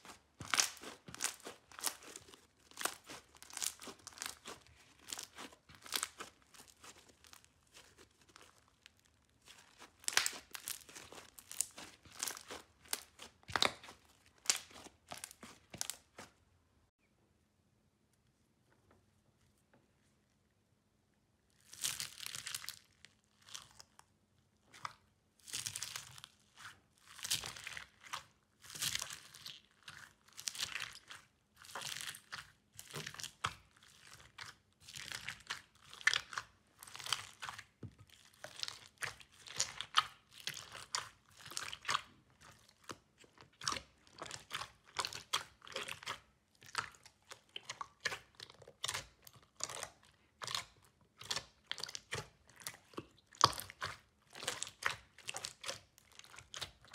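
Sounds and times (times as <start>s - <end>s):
slime crunching and squishing: 0.0s - 16.5s, 21.5s - 56.9s.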